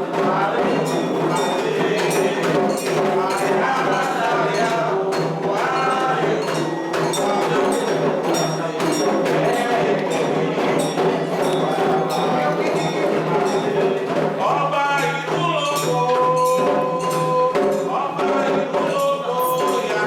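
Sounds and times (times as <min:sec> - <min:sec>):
group singing: 0:00.0 - 0:20.0
hand drums: 0:00.0 - 0:20.0.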